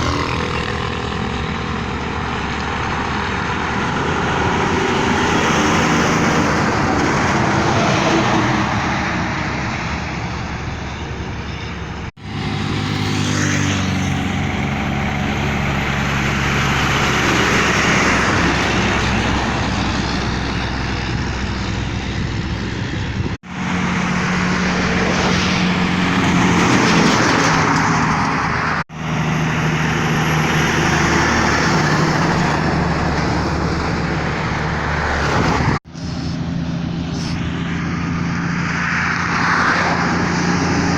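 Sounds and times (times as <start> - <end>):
truck diesel engines revving: 0.0 - 40.9.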